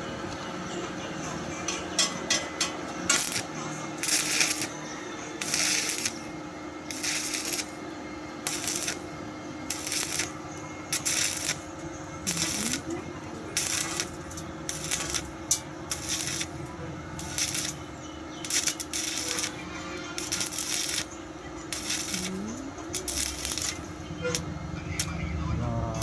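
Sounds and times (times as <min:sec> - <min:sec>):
welding arc crackling and hissing: 0:02.0 - 0:25.2.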